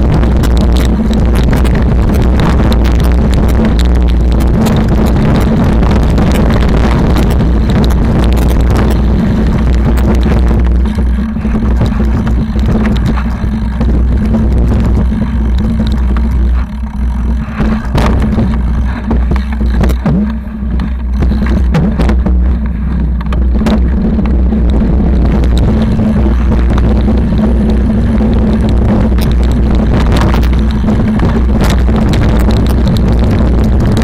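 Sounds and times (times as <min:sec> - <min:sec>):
bike frame rattling: 0:00.0 - 0:34.0
bike tyres rumbling on rocky trail: 0:00.0 - 0:34.0
wheels knocking on stones: 0:00.0 - 0:34.0
wind on camera: 0:00.0 - 0:34.0.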